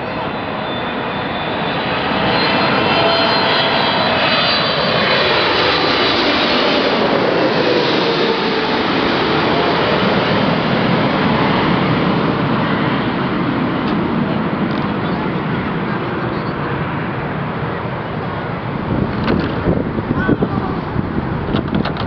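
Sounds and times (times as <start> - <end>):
jet aircraft roaring overhead: 0.0 - 22.0.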